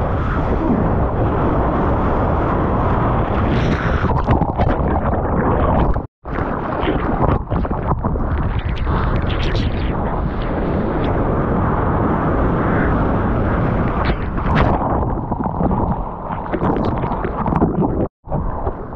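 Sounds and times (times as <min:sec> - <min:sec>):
wind buffeting camera: 0:00.0 - 0:18.9.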